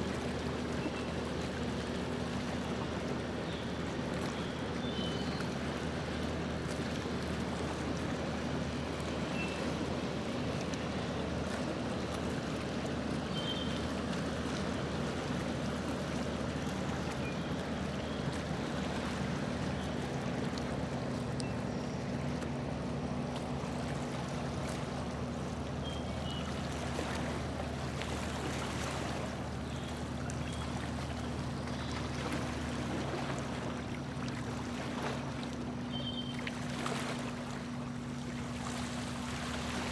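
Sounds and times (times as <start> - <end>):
motorboat engine running: 0.0 - 39.9
water rushing along hull: 0.0 - 39.9.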